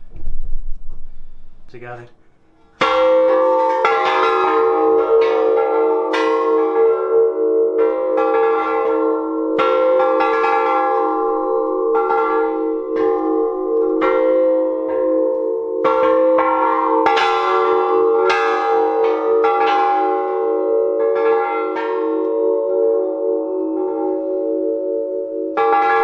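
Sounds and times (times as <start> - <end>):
tubular bells struck: 2.8 - 26.0.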